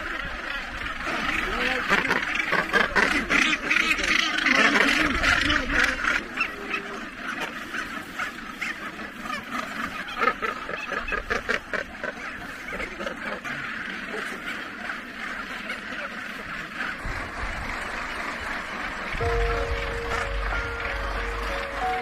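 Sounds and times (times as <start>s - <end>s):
gannet colony calling: 0.0s - 22.0s.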